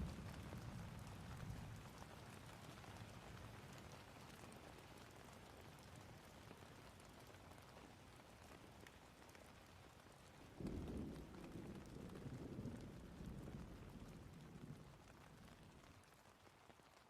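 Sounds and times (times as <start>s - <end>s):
faint steady rain: 0.0s - 17.0s.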